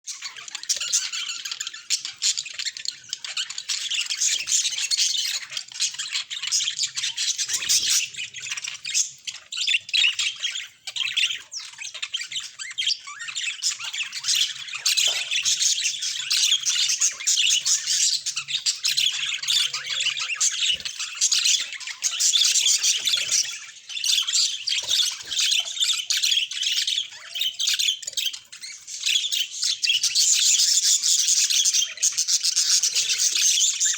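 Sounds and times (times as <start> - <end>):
budgerigars chattering: 0.1 - 33.9.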